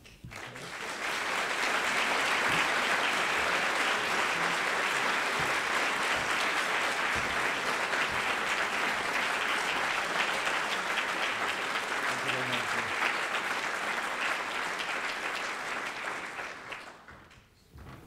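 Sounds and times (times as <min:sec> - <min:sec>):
large audience applauding: 0:00.0 - 0:17.5.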